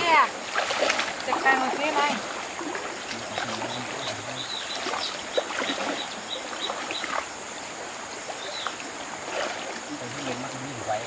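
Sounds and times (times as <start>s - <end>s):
stream water sloshing: 0.0s - 11.0s.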